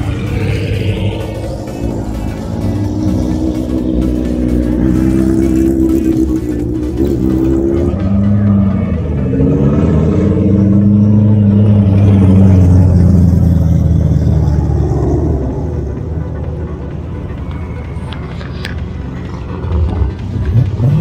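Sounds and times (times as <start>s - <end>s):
car engines rumbling past: 0.0s - 21.0s.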